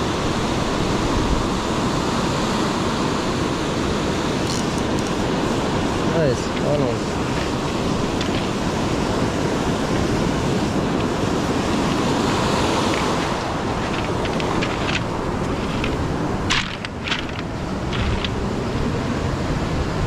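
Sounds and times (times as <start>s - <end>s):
ocean surf on beach: 0.0s - 20.0s
wind buffeting microphone: 3.0s - 20.0s.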